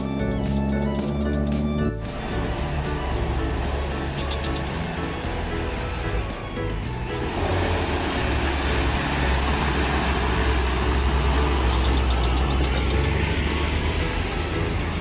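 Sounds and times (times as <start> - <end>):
diesel truck engine pulling uphill: 0.0 - 15.0.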